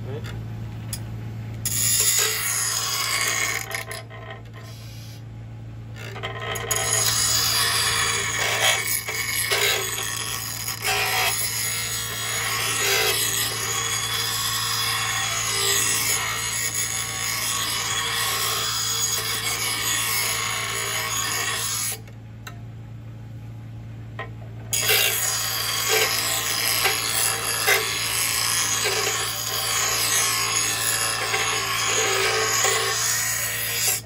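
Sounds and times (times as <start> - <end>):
blade grinding on wheel: 1.6 - 5.1, 5.9 - 22.0, 24.7 - 34.0
bench grinder motor hum: 1.6 - 5.2, 5.9 - 22.1, 24.2 - 34.0.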